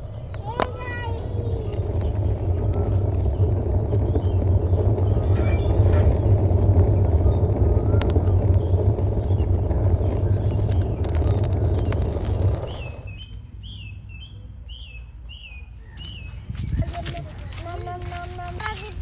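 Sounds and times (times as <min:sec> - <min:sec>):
wind buffeting microphone: 0:00.0 - 0:13.8, 0:16.0 - 0:19.0.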